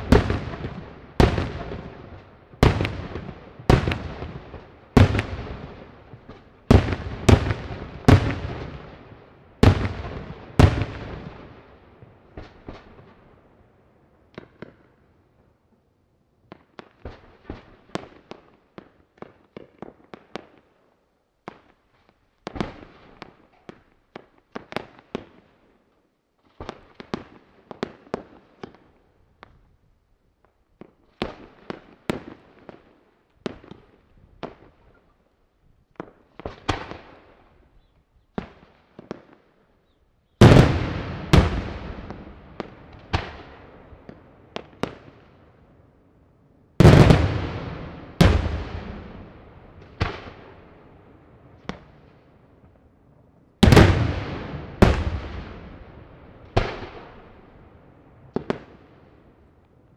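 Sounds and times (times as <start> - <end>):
fireworks bursting with echoing bangs: 0.0 - 13.5, 14.3 - 15.0, 16.5 - 20.7, 21.4 - 21.8, 22.4 - 25.6, 26.4 - 29.6, 30.8 - 35.1, 36.0 - 37.6, 38.3 - 39.5, 40.3 - 45.8, 46.7 - 52.8, 53.6 - 59.3.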